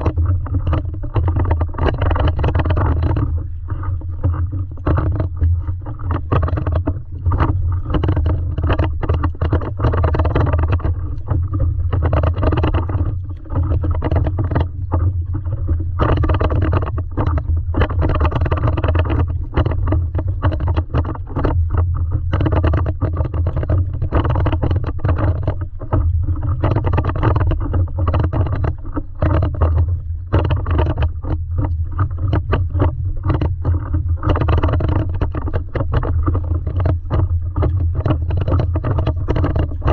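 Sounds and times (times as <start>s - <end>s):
steady low rumble: 0.0s - 39.9s
water splashing against paddleboard: 0.0s - 39.9s.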